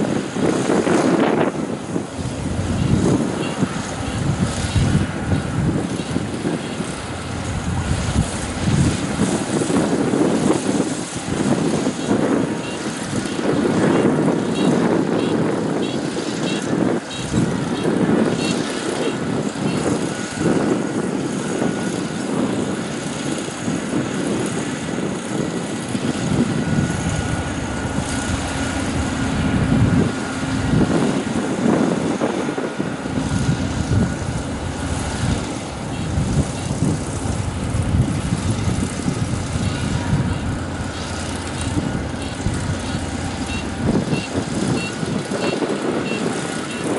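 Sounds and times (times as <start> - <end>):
combine harvester running: 0.0 - 46.9.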